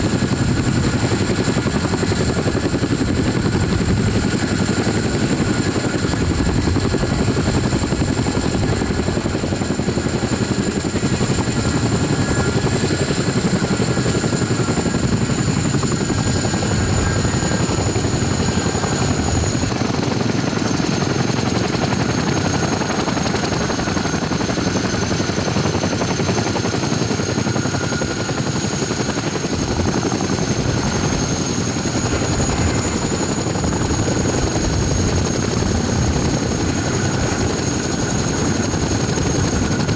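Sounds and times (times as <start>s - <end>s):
helicopter rotor noise: 0.0s - 39.9s
high turbine whine: 0.0s - 39.9s.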